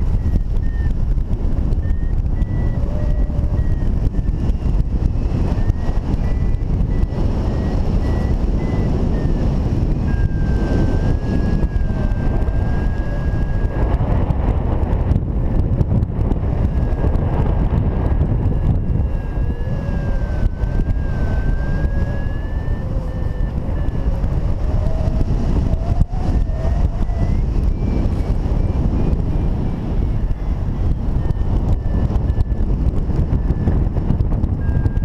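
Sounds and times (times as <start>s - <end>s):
faint wavering whistle: 0.0s - 35.0s
wind buffeting microphone: 0.0s - 35.0s.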